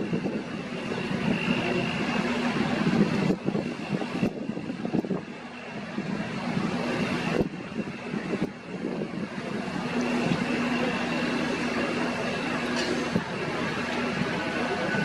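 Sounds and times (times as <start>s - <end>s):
machinery hum: 0.0s - 15.0s
wind noise on microphone: 0.0s - 15.0s.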